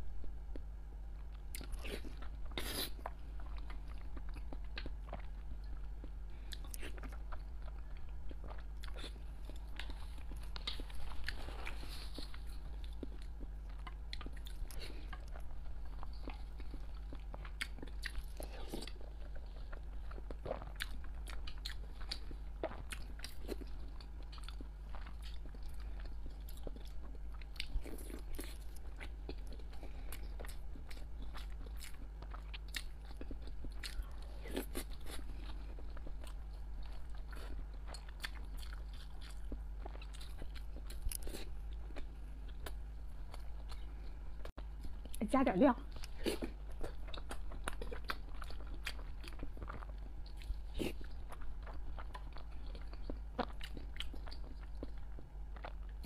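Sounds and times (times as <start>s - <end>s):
steady low hum: 0.0s - 56.0s
person chewing eggs: 0.2s - 45.2s, 45.9s - 56.0s.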